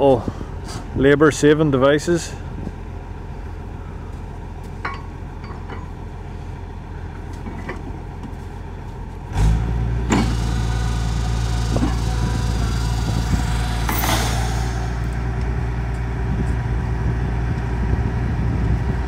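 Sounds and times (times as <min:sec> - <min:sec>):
drilling rig engine running: 0:00.3 - 0:19.0.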